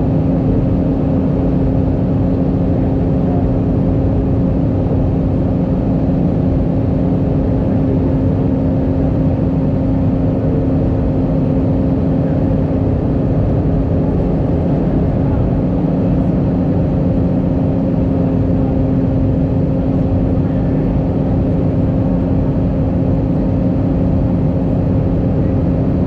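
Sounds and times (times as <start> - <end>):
aircraft cabin drone: 0.0 - 26.0.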